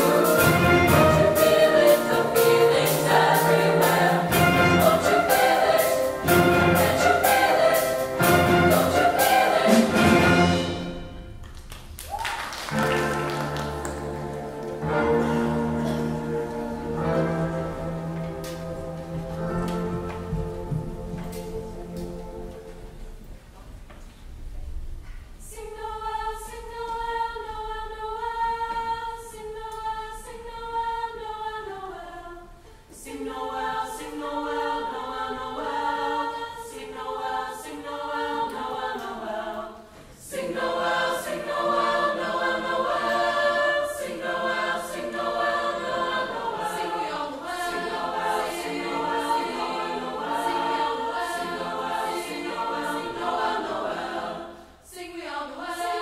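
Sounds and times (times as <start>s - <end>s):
children's choir singing: 0.0s - 11.3s, 12.6s - 23.2s, 25.4s - 56.0s.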